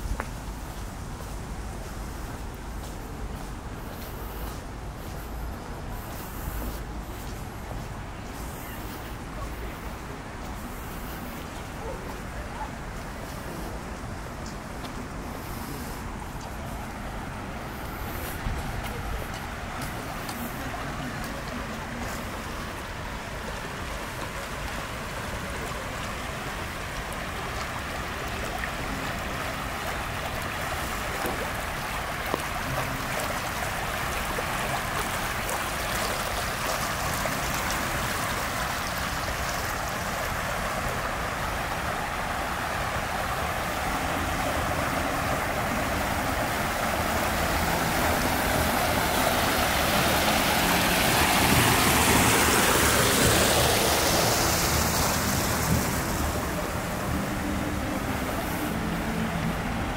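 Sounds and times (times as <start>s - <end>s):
water rushing down channel: 0.0s - 59.9s.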